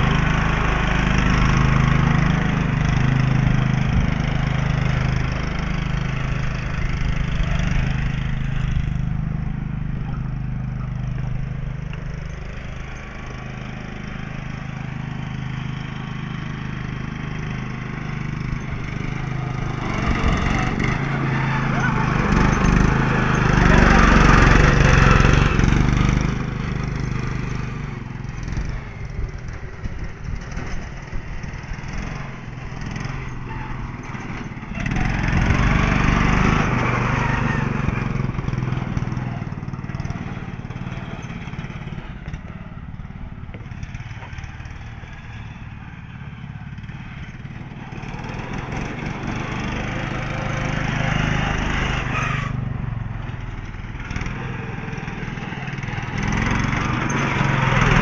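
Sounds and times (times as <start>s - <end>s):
riding lawnmower engine running: 0.0s - 58.0s.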